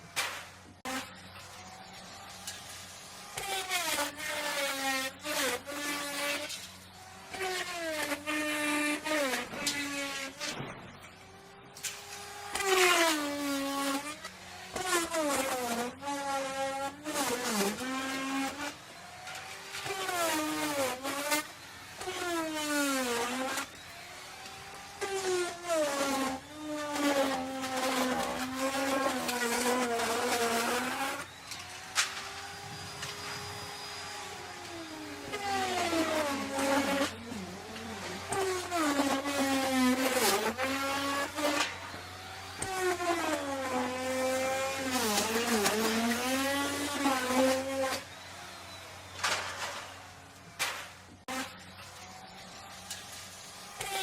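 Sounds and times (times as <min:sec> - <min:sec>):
router motor whine cutting wood: 0:00.0 - 0:54.0.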